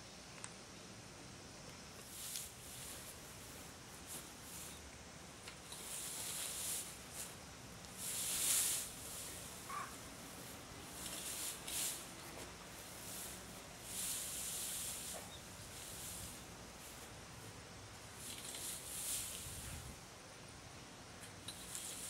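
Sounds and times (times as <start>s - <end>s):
dry grass rustling swishes: 2.0s - 20.1s, 21.6s - 22.0s.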